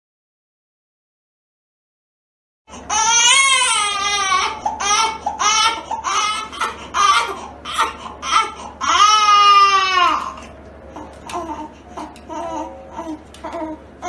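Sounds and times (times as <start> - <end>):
newborn baby crying: 2.7 - 14.0.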